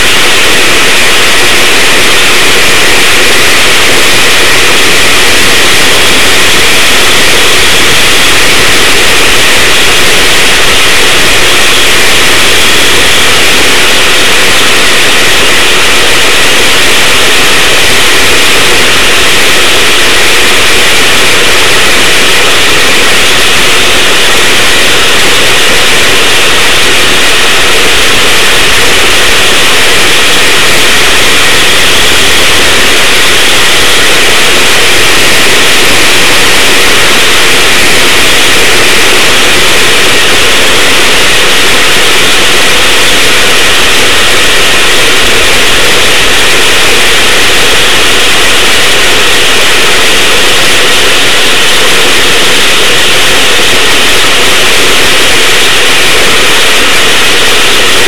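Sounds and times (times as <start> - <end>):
distorted go-kart engine roar: 0.0 - 58.0.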